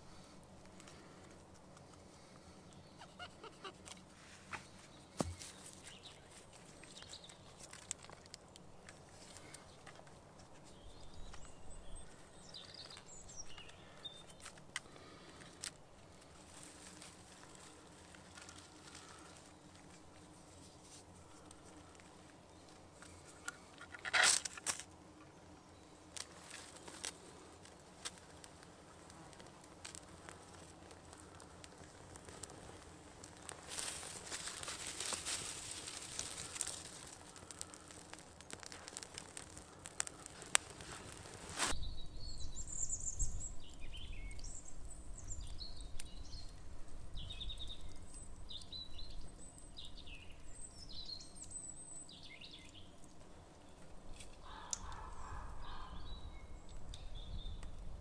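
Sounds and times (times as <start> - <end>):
tinder crackling: 0.0 - 55.2.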